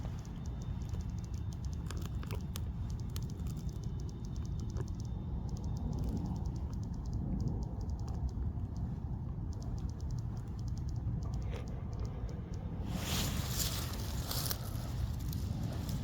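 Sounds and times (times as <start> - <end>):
rapid clicks and ticks: 0.0 - 16.0
steady low rumble: 0.0 - 16.0.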